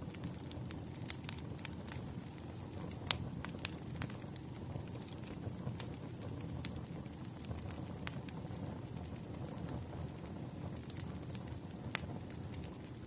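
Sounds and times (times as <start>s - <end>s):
burning logs popping: 0.0s - 13.0s
wood fire crackling: 0.0s - 13.0s.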